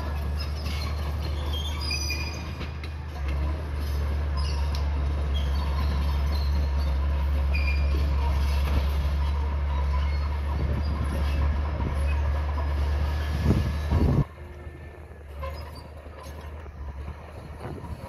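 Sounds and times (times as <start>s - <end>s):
bulldozer diesel engine droning: 0.0s - 18.0s
steel tracks squeaking and clanking: 0.0s - 18.0s.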